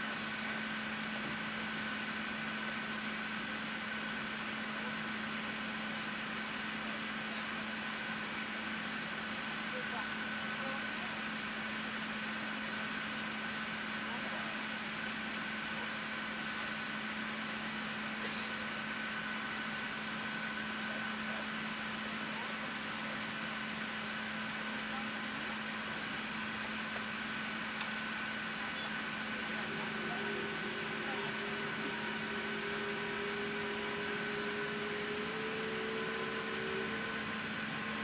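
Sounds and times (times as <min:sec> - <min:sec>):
high engine whine: 0:00.0 - 0:38.0
low engine hum: 0:00.0 - 0:38.0.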